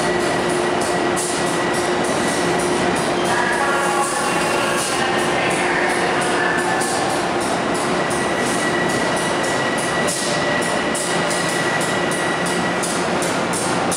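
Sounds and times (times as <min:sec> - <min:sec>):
high squeal of slowing train: 0:00.0 - 0:13.9.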